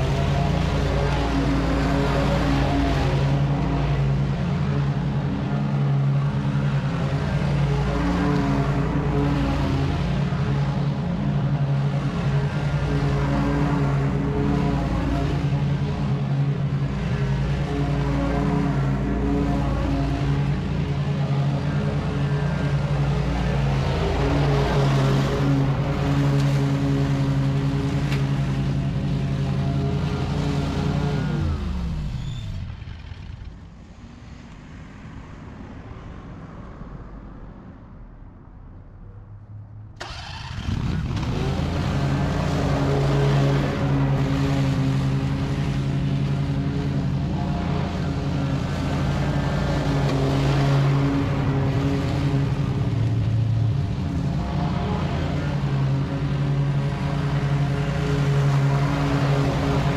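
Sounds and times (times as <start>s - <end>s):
mower engine running: 0.0s - 32.1s, 40.0s - 59.9s.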